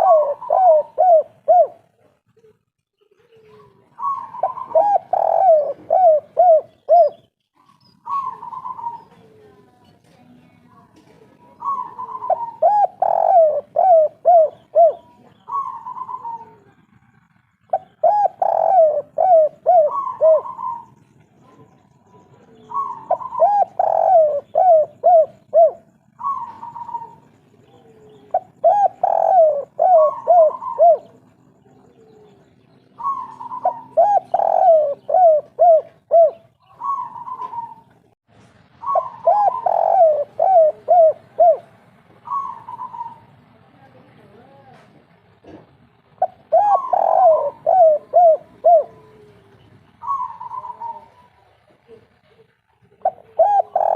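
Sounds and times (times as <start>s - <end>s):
dove cooing: 0.0s - 9.8s, 11.0s - 38.2s, 38.8s - 44.6s, 46.2s - 53.9s.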